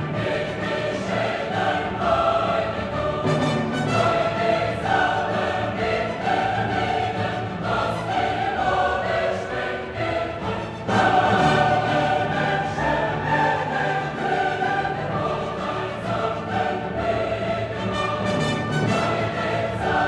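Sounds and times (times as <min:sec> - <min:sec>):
choir singing operatic style: 0:00.0 - 0:20.0.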